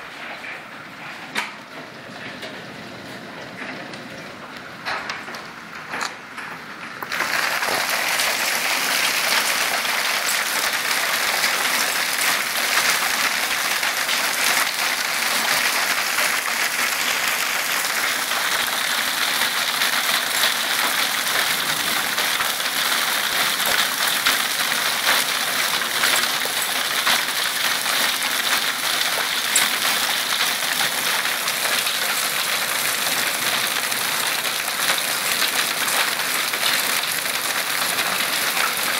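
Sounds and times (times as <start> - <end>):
hail clattering on wooden deck: 4.9 - 38.9.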